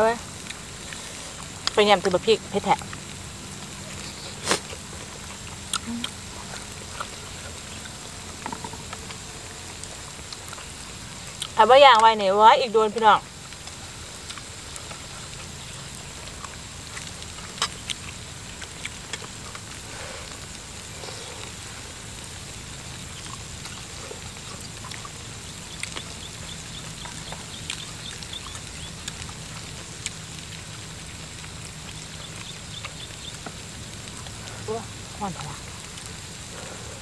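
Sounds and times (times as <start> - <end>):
pan sizzling and bubbling: 0.0 - 37.0.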